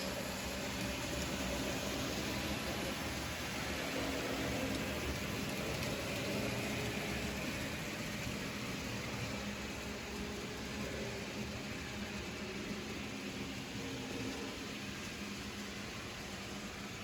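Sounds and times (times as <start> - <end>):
model train humming: 0.0 - 17.0.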